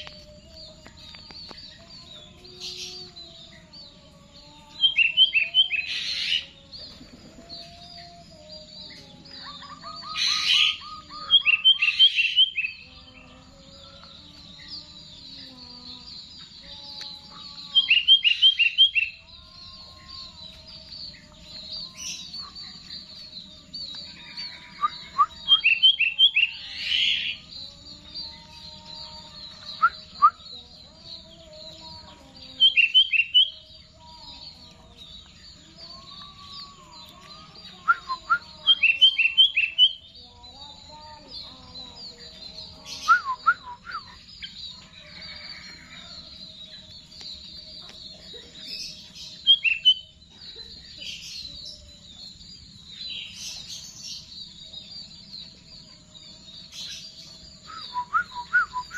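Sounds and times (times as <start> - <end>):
bird singing whistled notes: 0.0 - 13.0, 13.7 - 41.4, 42.0 - 58.9.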